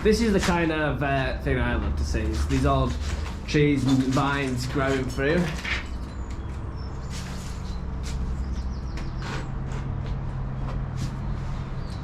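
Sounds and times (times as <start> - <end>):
footsteps crunching on debris: 0.0 - 11.4
low mechanical hum: 0.0 - 12.0.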